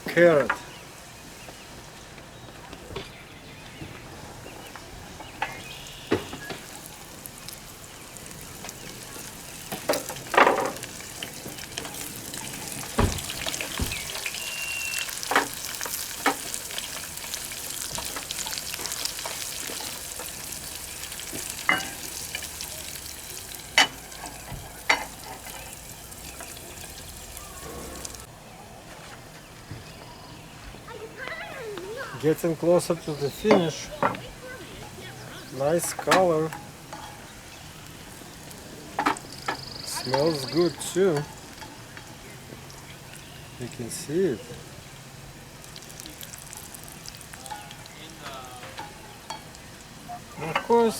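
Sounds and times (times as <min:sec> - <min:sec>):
vegetables sizzling in pan: 0:04.6 - 0:28.3, 0:31.3 - 0:50.9.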